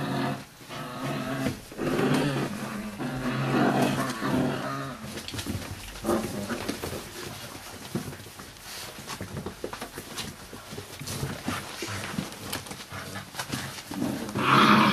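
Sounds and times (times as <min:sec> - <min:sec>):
clicks and shuffling: 0:01.4 - 0:14.4.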